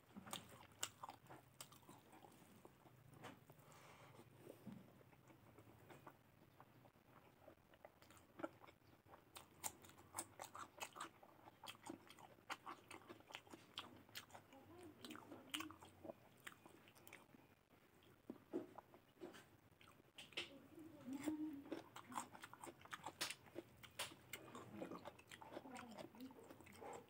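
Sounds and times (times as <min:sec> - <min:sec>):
crunchy chewing: 0:00.0 - 0:20.4, 0:21.0 - 0:27.0.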